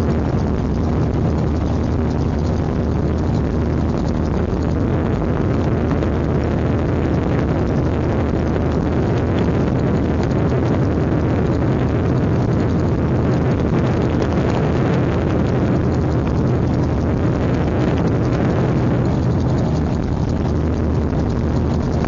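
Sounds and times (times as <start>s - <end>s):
gyroplane engine and propeller drone: 0.0s - 22.0s
rushing air: 0.0s - 22.0s.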